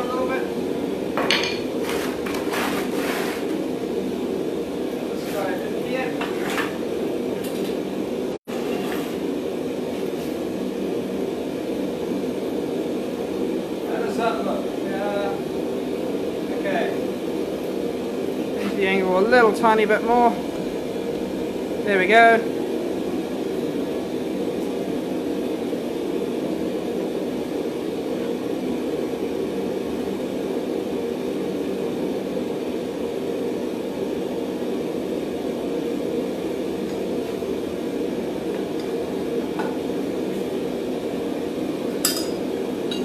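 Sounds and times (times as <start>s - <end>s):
forge roaring hum: 0.0s - 43.0s.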